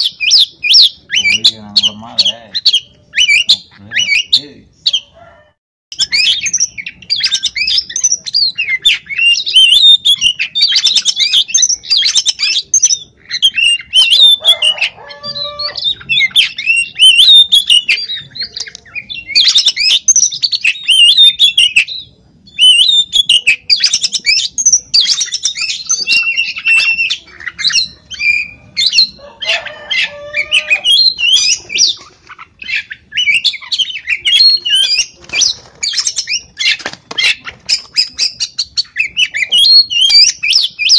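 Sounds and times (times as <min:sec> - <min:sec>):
bird singing whistled notes: 0:00.0 - 0:05.1, 0:05.9 - 0:32.0, 0:32.6 - 0:40.9.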